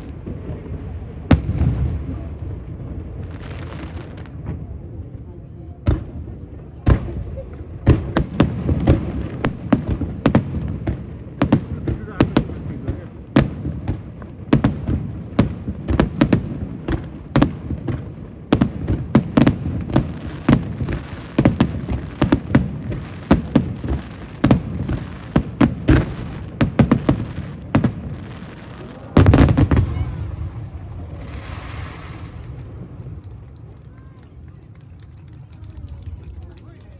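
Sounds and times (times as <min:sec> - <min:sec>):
aerial fireworks bursting: 0:00.0 - 0:04.9, 0:05.9 - 0:36.8.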